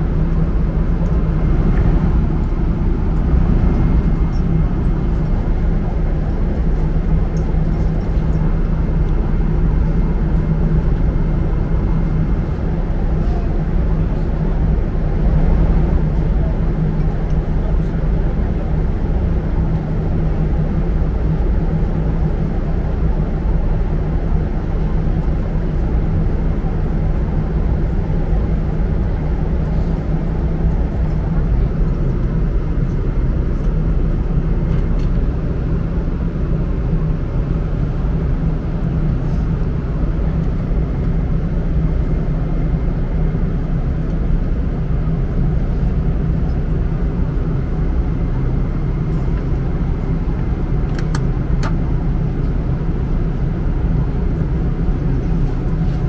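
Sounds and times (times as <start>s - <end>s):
jet airliner cabin noise: 0.0s - 56.0s.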